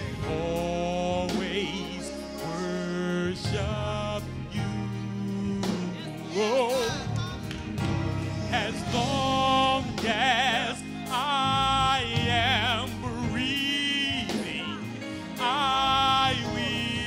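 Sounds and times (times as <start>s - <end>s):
man singing gospel: 0.0s - 17.0s
sustained backing music: 0.0s - 17.0s.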